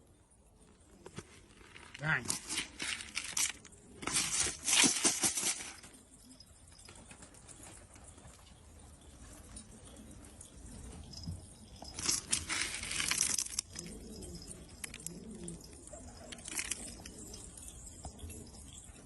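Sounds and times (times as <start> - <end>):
pigeons cooing: 0.5 - 19.0.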